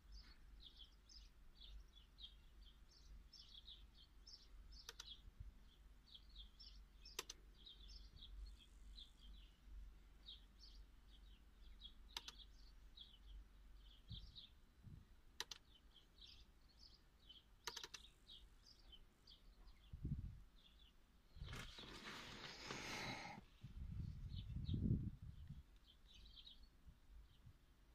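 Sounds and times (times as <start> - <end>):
faint birds chirping: 0.0 - 27.9.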